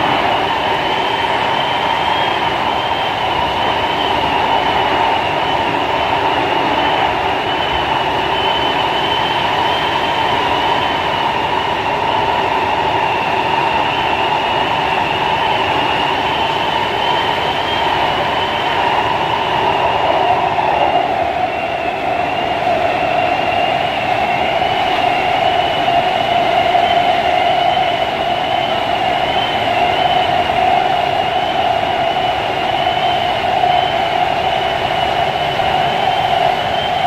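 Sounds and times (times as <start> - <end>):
high wavering train whine: 0.0 - 37.0
train wheels rumbling on track: 0.0 - 37.0.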